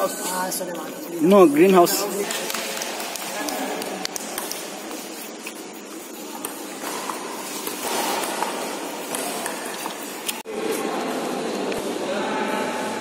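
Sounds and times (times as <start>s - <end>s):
din of echoing hall: 0.0s - 13.0s.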